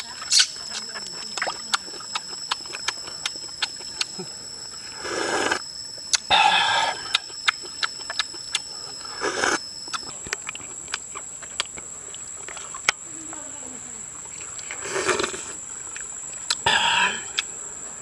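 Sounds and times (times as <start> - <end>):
steady high-pitched hum: 0.0 - 18.0.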